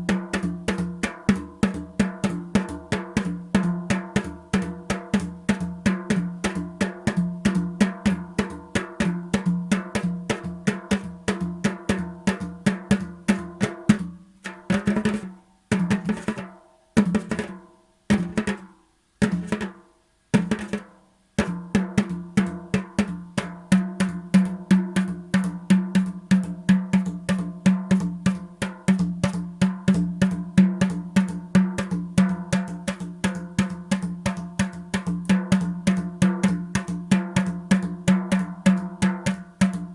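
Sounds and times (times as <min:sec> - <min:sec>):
fast drum strokes: 0:00.0 - 0:19.8, 0:20.4 - 0:39.9.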